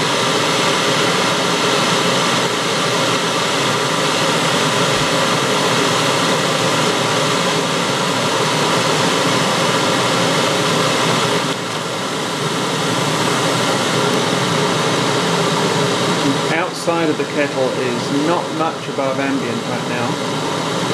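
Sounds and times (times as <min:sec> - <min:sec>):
electric kettle heating water: 0:00.0 - 0:19.3.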